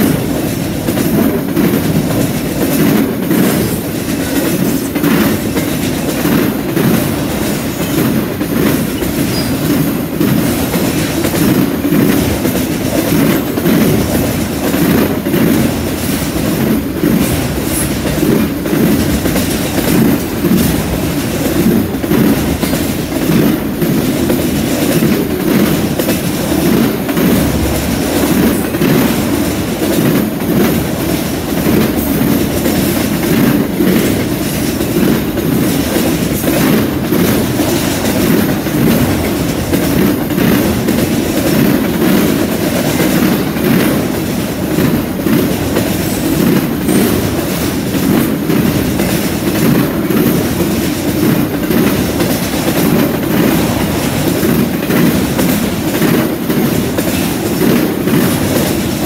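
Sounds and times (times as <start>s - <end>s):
freight train wheels rumbling: 0.0s - 59.0s
wheels clickety-clack on rail: 0.0s - 59.0s.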